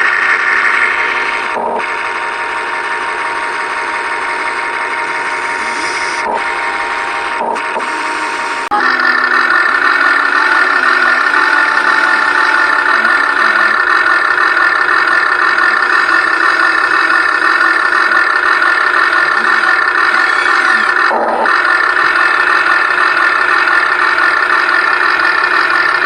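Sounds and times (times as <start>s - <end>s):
toy excavator motors whining: 0.0s - 26.0s.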